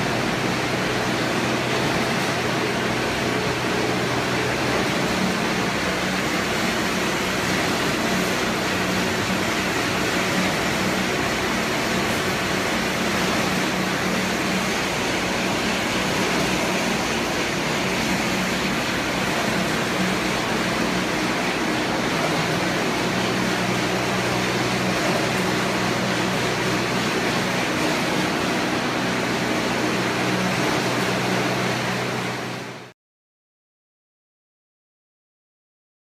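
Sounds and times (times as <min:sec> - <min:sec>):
air compressor running: 0:00.0 - 0:32.9.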